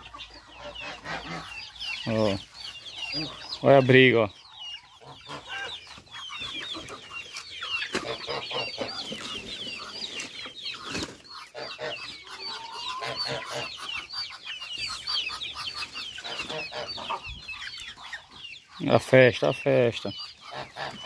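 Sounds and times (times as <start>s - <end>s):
chicks peeping: 0.0s - 21.0s
hens clucking: 0.0s - 21.0s.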